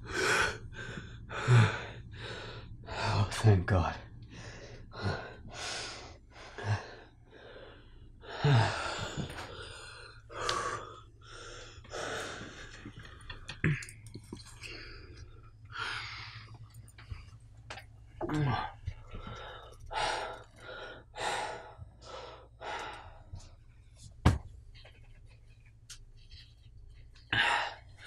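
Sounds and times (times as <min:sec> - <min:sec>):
man breathing heavily: 0:00.0 - 0:03.4, 0:04.2 - 0:24.1, 0:27.2 - 0:28.0.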